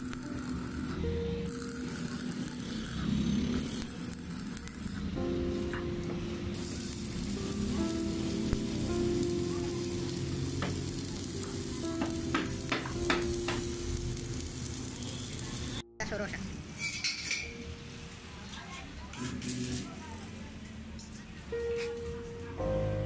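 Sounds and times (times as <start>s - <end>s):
welding arc sizzling and crackling: 0.0s - 17.0s, 18.1s - 21.9s.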